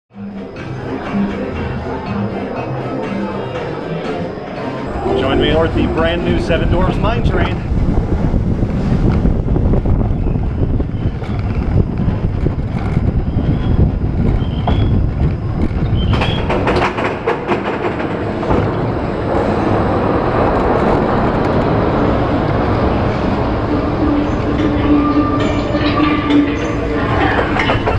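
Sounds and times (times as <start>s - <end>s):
roller coaster wheels rumbling on rail: 0.3s - 27.9s.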